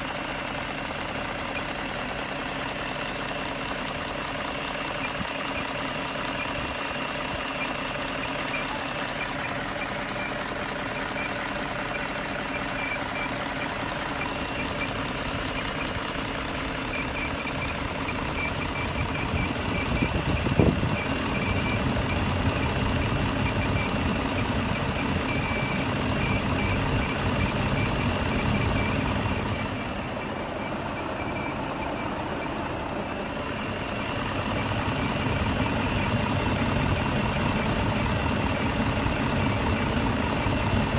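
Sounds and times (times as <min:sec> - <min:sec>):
car engine running: 0:00.0 - 0:40.9
fast even ticking: 0:07.8 - 0:40.9.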